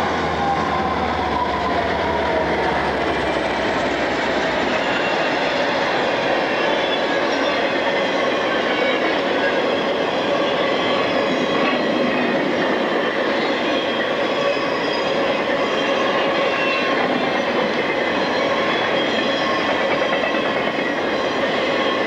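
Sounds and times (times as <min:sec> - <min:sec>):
freight train passing: 0:00.0 - 0:22.0.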